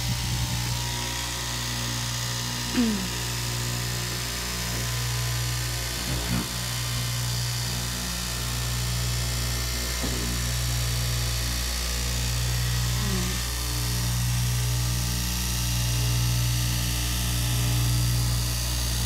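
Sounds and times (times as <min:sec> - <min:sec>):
cloth cutting machine humming: 0:00.0 - 0:19.0.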